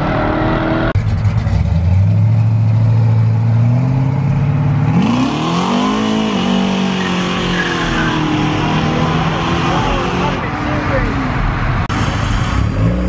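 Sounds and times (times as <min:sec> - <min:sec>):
pickup engine revving: 0:00.0 - 0:13.0.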